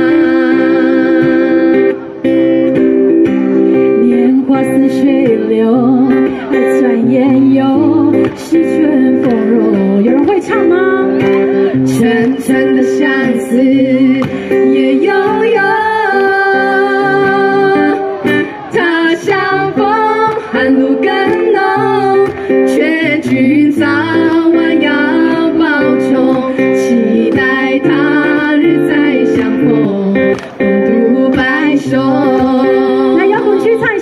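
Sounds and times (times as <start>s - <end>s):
women singing: 0.0s - 2.0s, 4.0s - 34.0s
strummed acoustic guitar: 0.0s - 33.9s.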